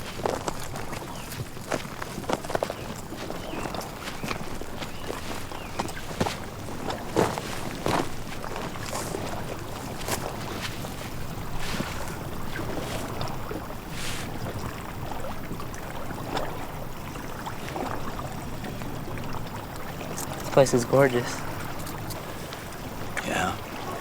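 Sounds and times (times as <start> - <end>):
paddles splashing in water: 0.0 - 24.0
water and wind rumble: 0.0 - 24.0.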